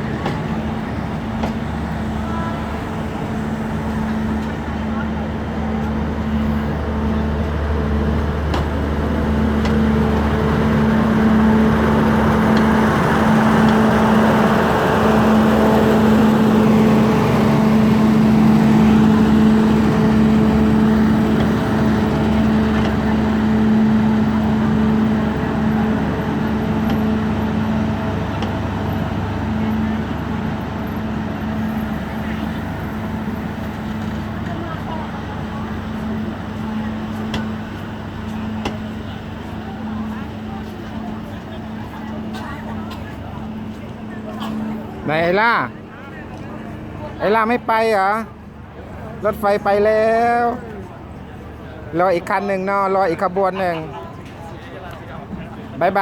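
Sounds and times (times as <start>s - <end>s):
train engine hum: 0.0s - 56.0s
train rolling rush: 0.0s - 56.0s.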